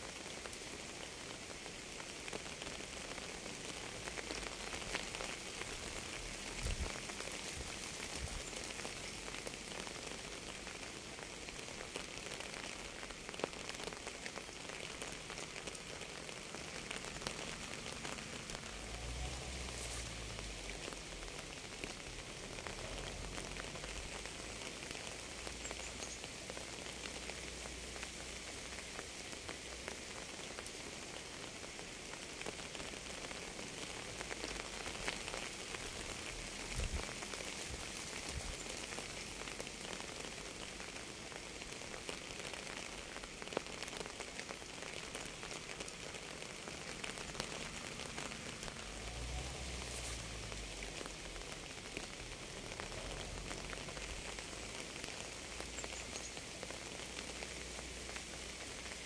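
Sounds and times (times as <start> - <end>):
steady rain hiss: 0.0 - 59.0
raindrops ticking: 0.1 - 59.0.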